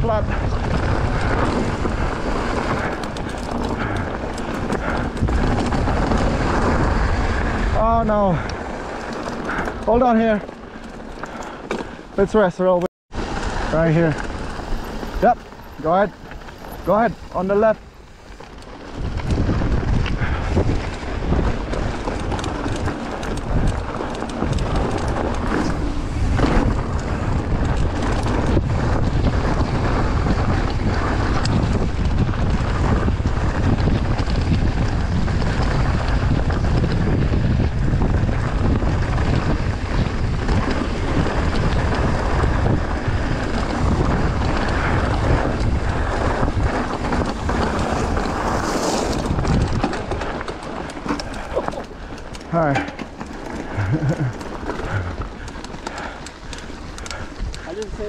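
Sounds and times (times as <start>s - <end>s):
wind buffeting microphone: 0.0s - 12.4s, 13.1s - 58.0s
bike rattling: 0.0s - 58.0s
tyres crunching over gravel: 0.6s - 12.6s, 13.2s - 30.0s, 38.2s - 58.0s.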